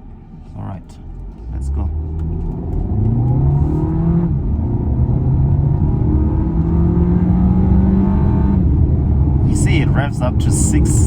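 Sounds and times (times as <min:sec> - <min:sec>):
car engine accelerating: 0:01.0 - 0:11.0.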